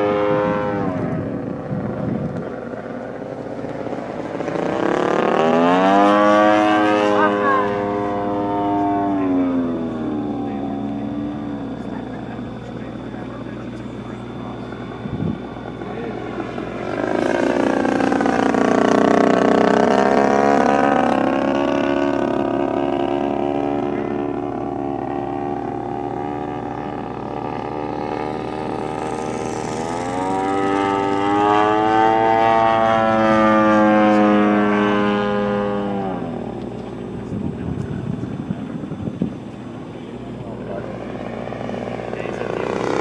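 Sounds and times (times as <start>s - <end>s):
model airplane engine and propeller: 0.0s - 43.0s.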